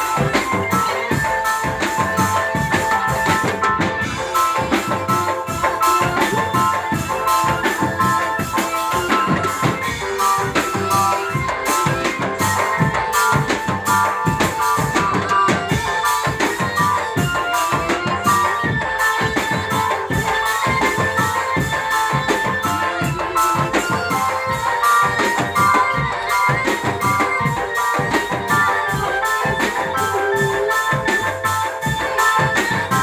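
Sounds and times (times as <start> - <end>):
fast steady drumming: 0.0 - 33.0
melody of held notes: 0.0 - 33.0.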